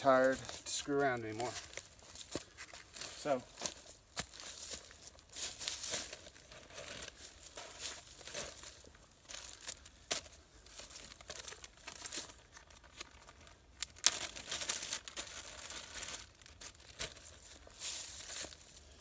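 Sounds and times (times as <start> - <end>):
rustling and crinkling: 0.0 - 19.0.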